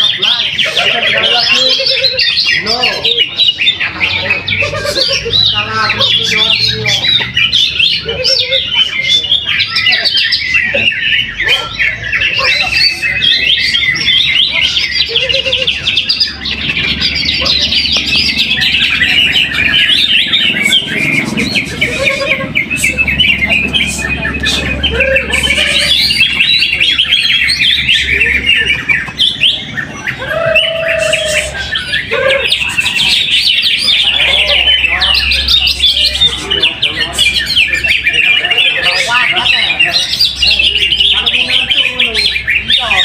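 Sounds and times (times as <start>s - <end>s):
bird chirping and trilling: 0.0s - 43.0s.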